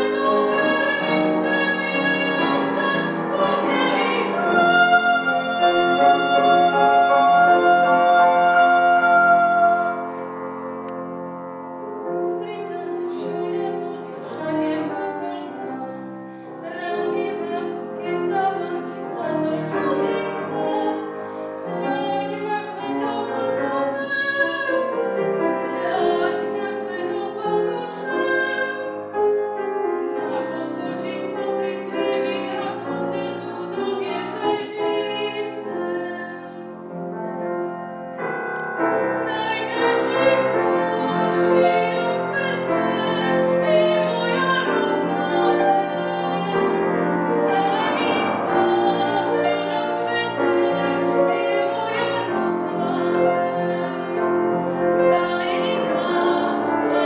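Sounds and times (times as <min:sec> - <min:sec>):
woman singing operatically: 0:00.0 - 0:10.1, 0:12.3 - 0:24.9, 0:25.6 - 0:29.0, 0:30.2 - 0:36.6, 0:39.2 - 0:57.0
grand piano accompaniment: 0:00.0 - 0:57.0.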